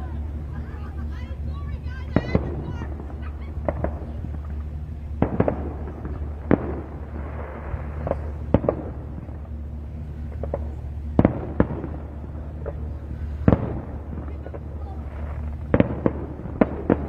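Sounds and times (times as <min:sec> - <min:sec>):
firework crackling: 0:00.0 - 0:17.0
steady low hum: 0:00.0 - 0:17.0
firework shells bursting: 0:02.1 - 0:17.0.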